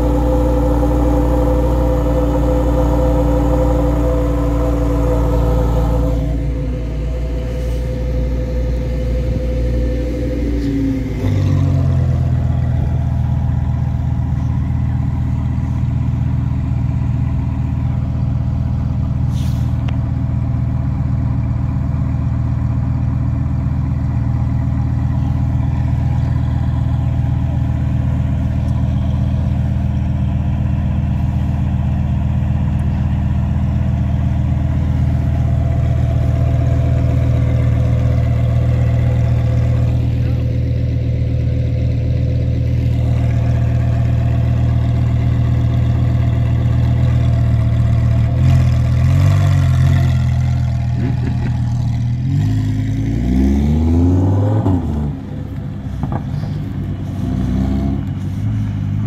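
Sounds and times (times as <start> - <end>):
sports car engine running: 0.0 - 59.0.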